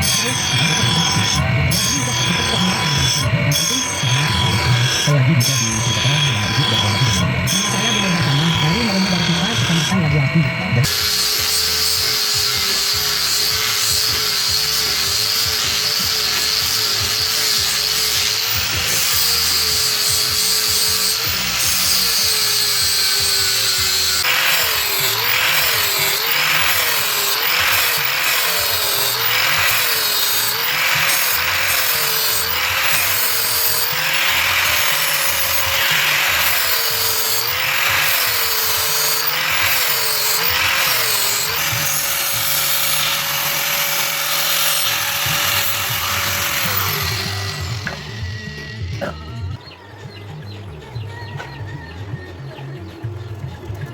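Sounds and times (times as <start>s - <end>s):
scraping rasp: 0.0s - 10.1s, 10.8s - 49.3s
power tool working metal: 0.0s - 49.6s.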